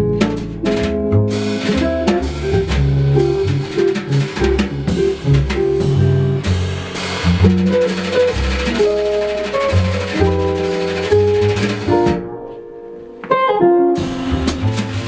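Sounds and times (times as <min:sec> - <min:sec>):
low bass line: 0:00.0 - 0:12.5, 0:14.0 - 0:15.0
drum kit: 0:00.0 - 0:15.0
jazz guitar: 0:00.0 - 0:15.0.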